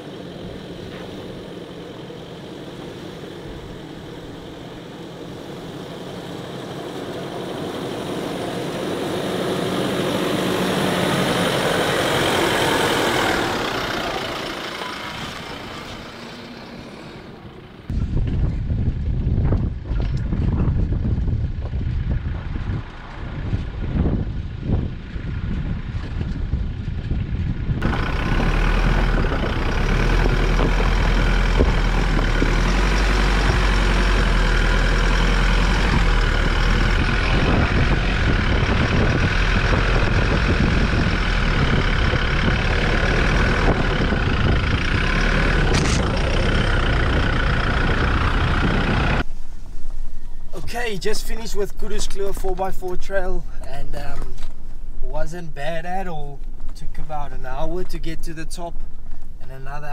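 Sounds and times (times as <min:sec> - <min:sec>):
off-road vehicle engine and tyres: 0:00.0 - 0:59.9.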